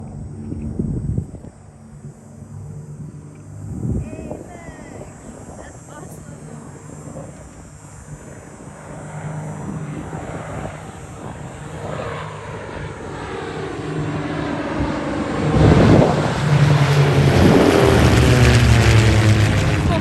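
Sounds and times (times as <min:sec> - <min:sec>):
propeller aircraft flying by: 0:00.0 - 0:20.0.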